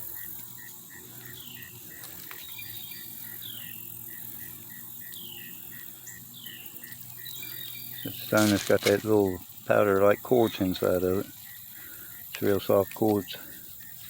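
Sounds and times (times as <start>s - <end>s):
high falling insect chirp: 0.0s - 14.0s
insect pulsing call: 0.0s - 14.0s.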